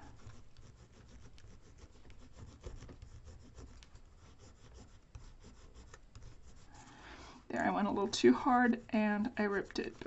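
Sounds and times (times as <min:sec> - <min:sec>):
stylus scratching on paper: 0:00.0 - 0:07.0, 0:07.6 - 0:10.0.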